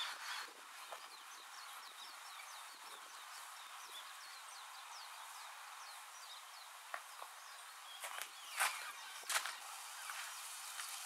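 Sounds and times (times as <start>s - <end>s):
faint steady hiss: 0.0s - 11.0s
small birds chirping: 0.0s - 11.0s.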